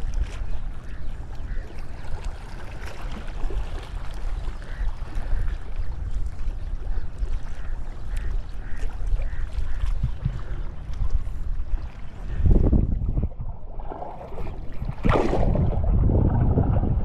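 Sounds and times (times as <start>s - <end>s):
sea water sloshing: 0.0s - 17.0s
wind buffeting microphone: 3.2s - 17.0s.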